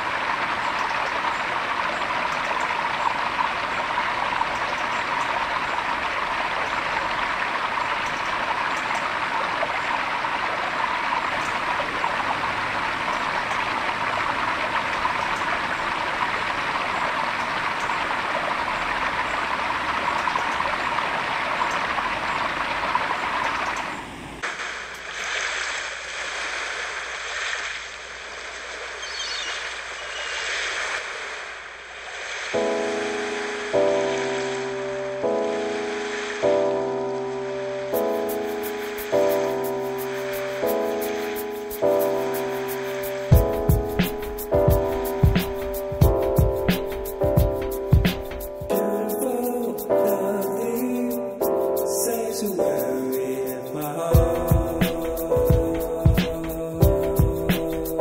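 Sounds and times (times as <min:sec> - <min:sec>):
stream splashing over rocks: 0:00.0 - 0:58.0.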